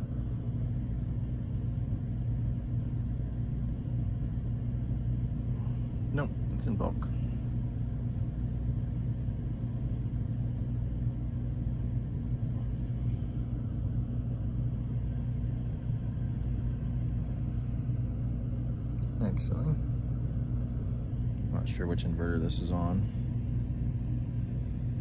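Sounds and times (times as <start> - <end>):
air conditioner humming: 0.0 - 25.0.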